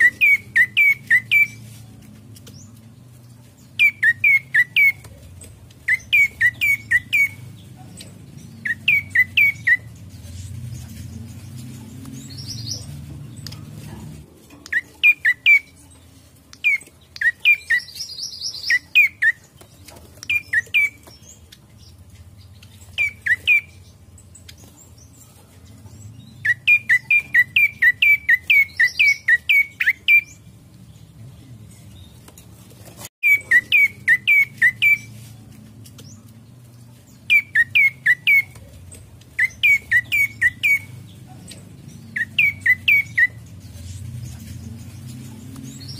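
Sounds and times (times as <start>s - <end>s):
bird chirping: 0.0s - 32.5s, 33.2s - 45.9s.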